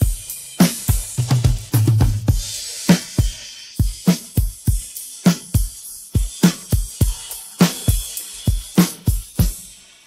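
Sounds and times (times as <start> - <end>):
bass drum and snare beat: 0.0 - 10.0
hi-hat and cymbal shimmer: 0.0 - 10.0.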